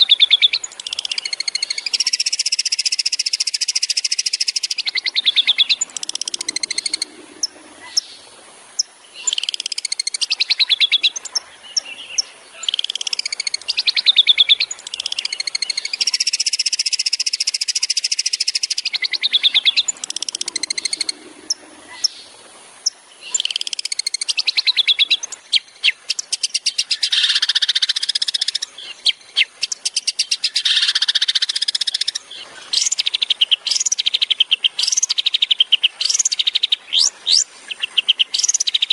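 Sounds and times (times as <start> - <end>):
shrike singing rattling trills: 0.0 - 8.2, 8.8 - 38.9.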